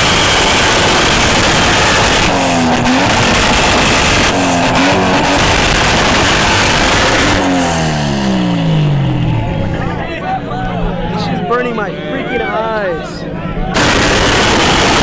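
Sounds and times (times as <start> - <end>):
car engine revving hard: 0.0 - 11.6, 13.7 - 15.0.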